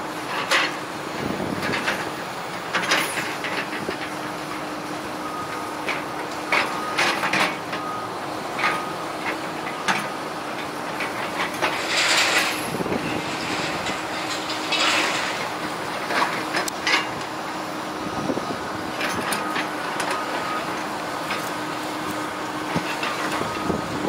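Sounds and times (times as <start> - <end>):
excavator engine drone: 0.0 - 24.0.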